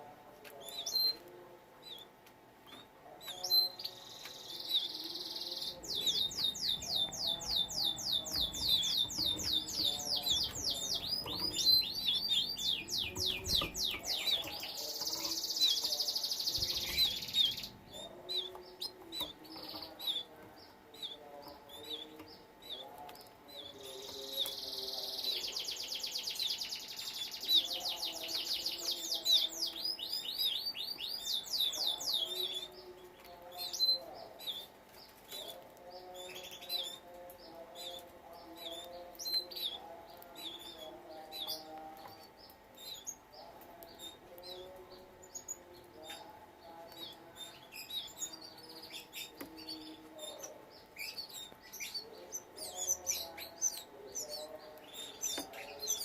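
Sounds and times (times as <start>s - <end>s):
canary chirps and calls: 0.0s - 56.0s
canaries trilling: 0.5s - 56.0s.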